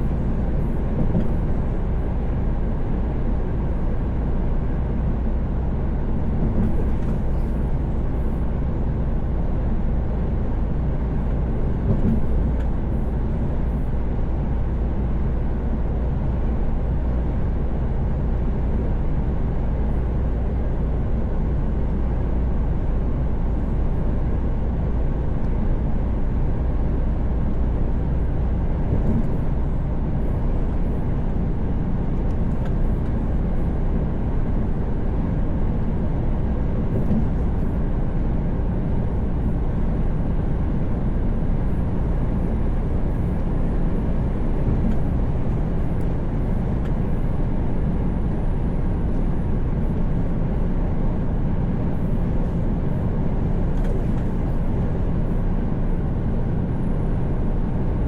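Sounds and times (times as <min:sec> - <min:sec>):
truck engine drone: 0:00.0 - 0:58.0.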